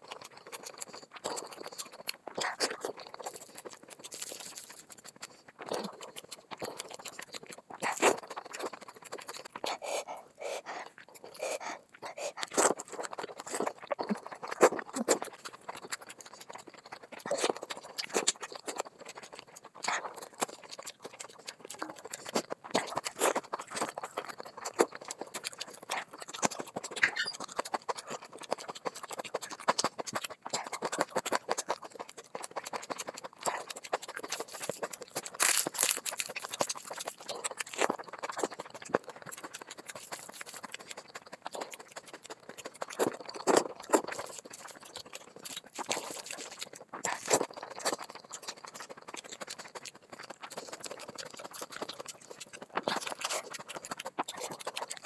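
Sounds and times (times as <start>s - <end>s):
person chewing food: 0.0s - 55.0s
tearing chicken: 0.1s - 9.7s, 12.4s - 55.0s.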